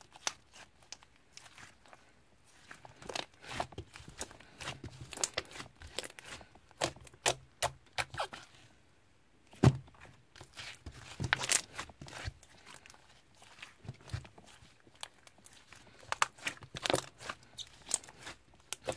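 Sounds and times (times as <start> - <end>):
slime squished by hand: 0.0 - 8.6, 10.4 - 18.9.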